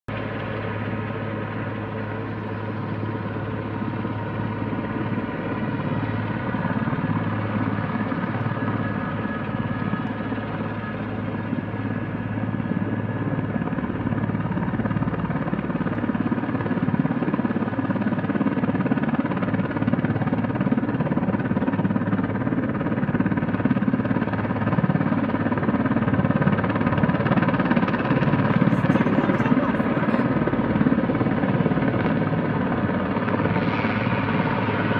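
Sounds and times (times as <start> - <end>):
distant helicopter hovering: 0.1 - 34.9.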